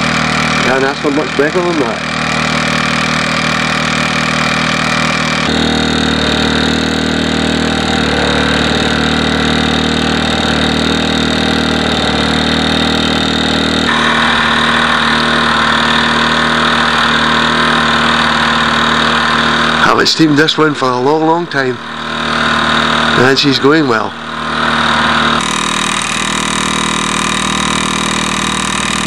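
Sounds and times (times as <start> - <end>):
toy steam engine running: 0.0 - 29.0.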